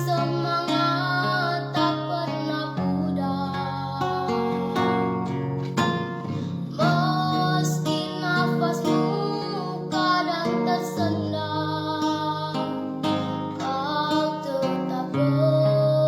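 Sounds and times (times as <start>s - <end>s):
high voice singing: 0.0s - 5.1s, 6.7s - 16.0s
acoustic guitar notes: 0.0s - 16.0s.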